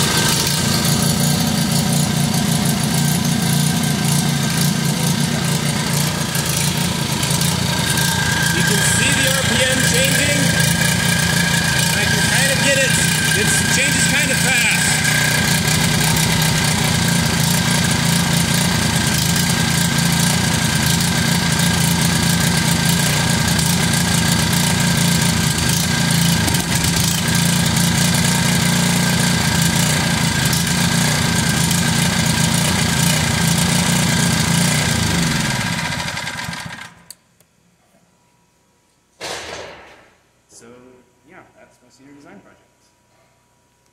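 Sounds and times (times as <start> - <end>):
small gas engine running: 0.0 - 37.2.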